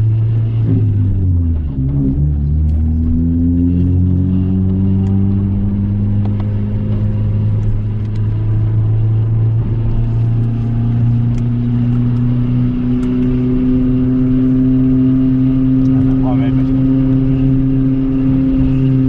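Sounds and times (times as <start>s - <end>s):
car engine from inside cabin: 0.0s - 19.0s.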